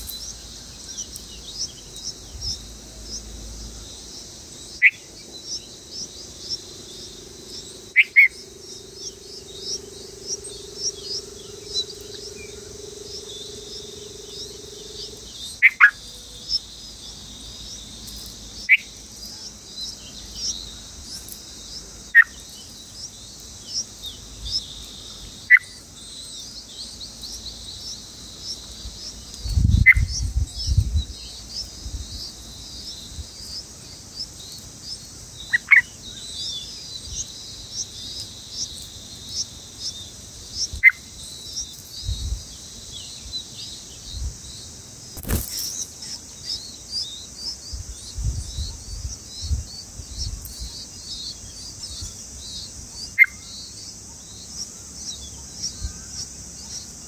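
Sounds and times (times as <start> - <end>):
high-pitched insect drone: 0.0 - 57.0
soft bird chirps: 0.0 - 57.0.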